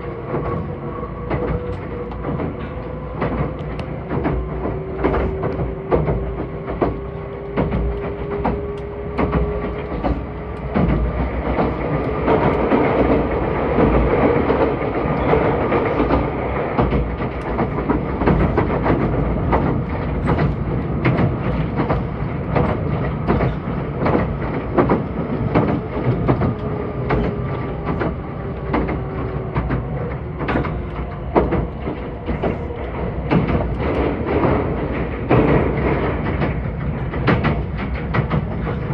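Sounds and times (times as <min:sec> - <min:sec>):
electric train rumbling: 0:00.0 - 0:38.9
faint train whine: 0:00.0 - 0:38.9
wheels clicking over rail joints: 0:00.0 - 0:38.9.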